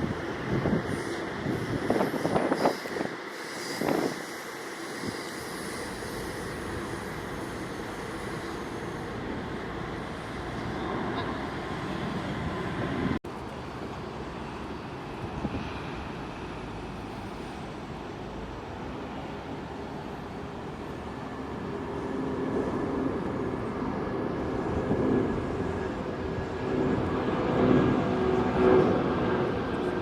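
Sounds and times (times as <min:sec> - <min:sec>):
jet aircraft engines rumbling: 0:00.0 - 0:30.0.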